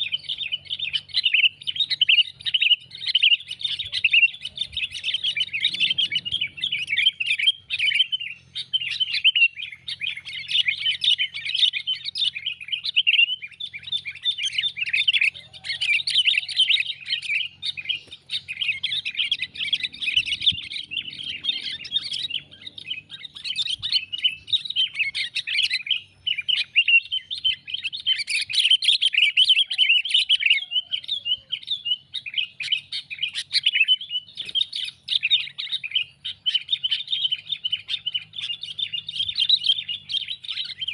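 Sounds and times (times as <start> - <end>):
bulbuls chattering calls: 0.0 - 40.9.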